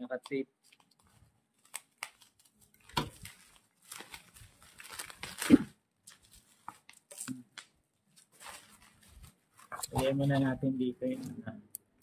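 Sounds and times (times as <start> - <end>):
bubble wrap crinkling: 0.6 - 10.5.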